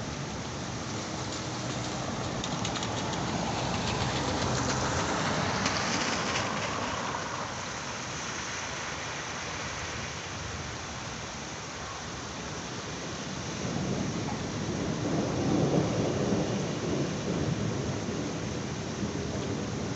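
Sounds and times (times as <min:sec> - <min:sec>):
heavy rain pouring: 0:00.0 - 0:19.9.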